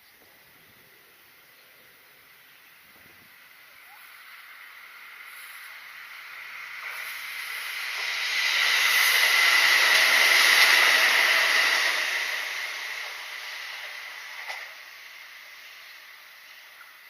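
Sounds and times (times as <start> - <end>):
electric train passing: 0.0 - 17.0
steady high whine: 0.0 - 17.0.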